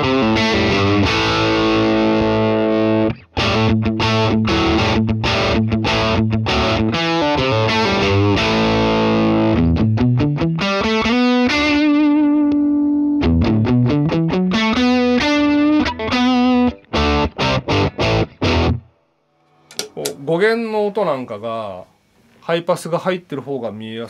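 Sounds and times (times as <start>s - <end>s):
distorted electric guitar chords: 0.0s - 20.4s.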